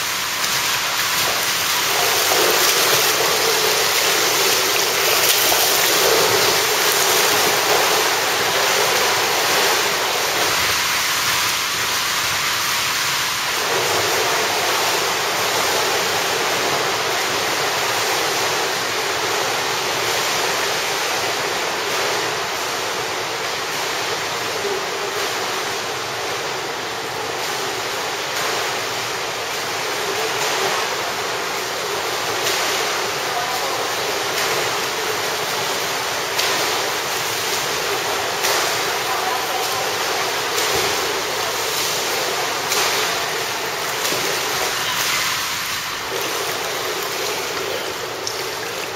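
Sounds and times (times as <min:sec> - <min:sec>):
swimmers splashing pool water: 0:00.0 - 0:48.9.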